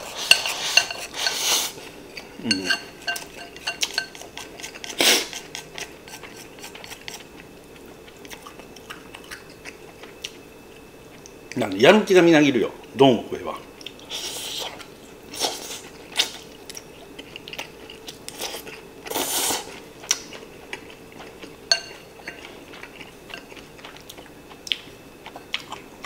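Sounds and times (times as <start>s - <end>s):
person chewing food: 0.0s - 10.4s, 13.8s - 26.0s.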